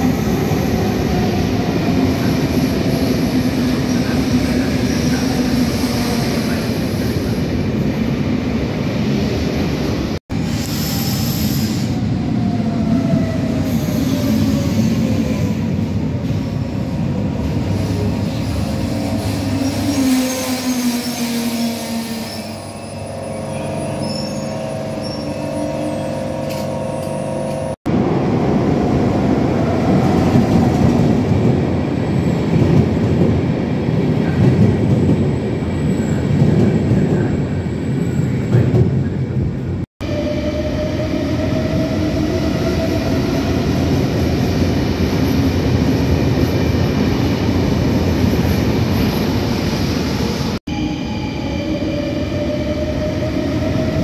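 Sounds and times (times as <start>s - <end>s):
train rumbling along platform: 0.0s - 54.0s.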